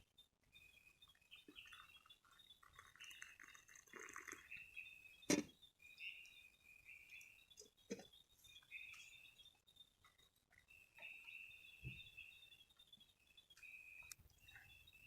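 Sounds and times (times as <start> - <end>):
faint high chirping calls: 0.0 - 15.0.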